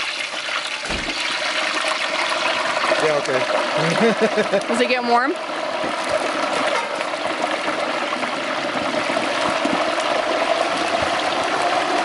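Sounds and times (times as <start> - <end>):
hot oil bubbling and sizzling: 0.0 - 12.0.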